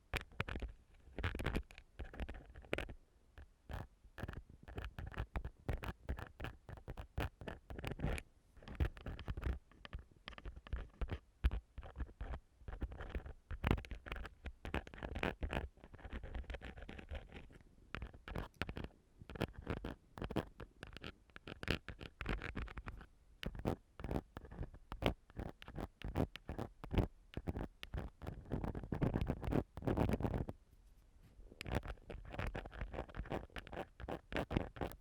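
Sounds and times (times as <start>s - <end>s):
ear pick scratching microphone: 3.7s - 35.0s.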